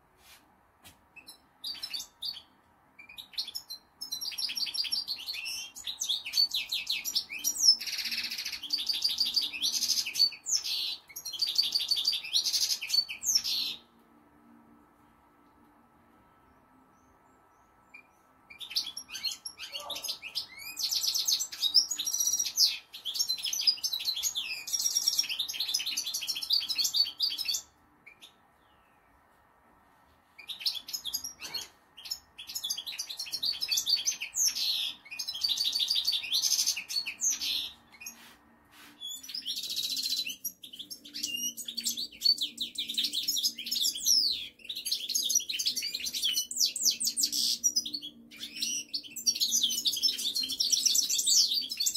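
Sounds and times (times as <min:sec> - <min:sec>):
finch singing: 0:01.2 - 0:13.9, 0:17.0 - 0:28.9, 0:30.4 - 0:38.3, 0:39.0 - 0:51.9.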